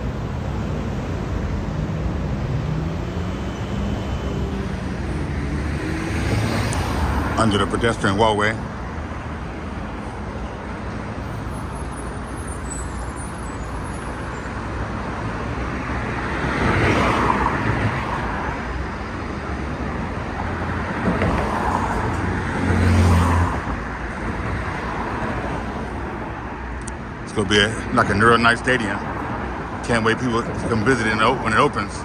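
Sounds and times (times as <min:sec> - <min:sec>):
cars passing by: 0:00.0 - 0:32.0
heavy vehicle engine droning: 0:00.0 - 0:32.0
roadway traffic hum: 0:00.0 - 0:32.0.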